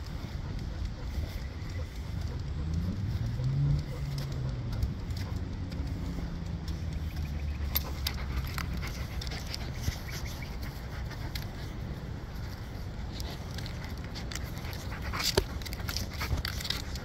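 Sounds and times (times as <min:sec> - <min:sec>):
dog panting: 0:00.0 - 0:17.0
steady low rumble: 0:00.0 - 0:17.0.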